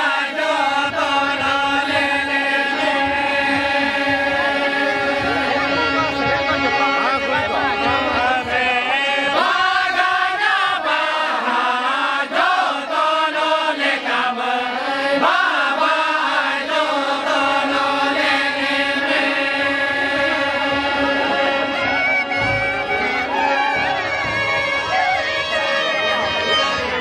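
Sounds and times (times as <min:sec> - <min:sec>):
men singing folk song: 0:00.0 - 0:25.6
harmonium held notes: 0:00.0 - 0:27.0.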